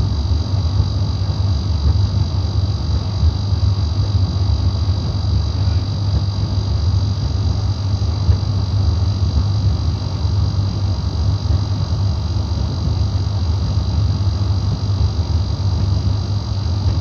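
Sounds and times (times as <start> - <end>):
tumble dryer humming: 0.0 - 17.0.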